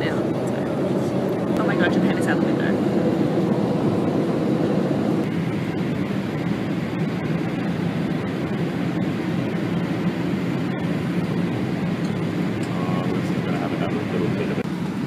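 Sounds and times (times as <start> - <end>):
jet airliner cabin noise: 0.0 - 15.0.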